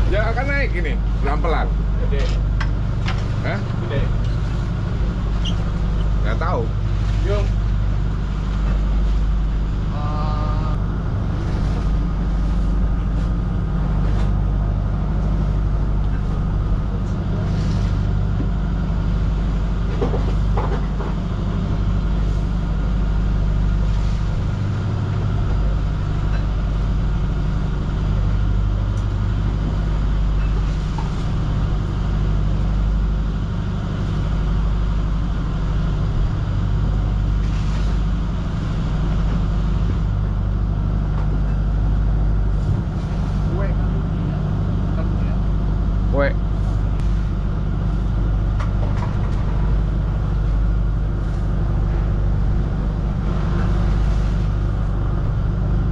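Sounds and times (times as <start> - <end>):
boat motor droning: 0.0 - 55.9.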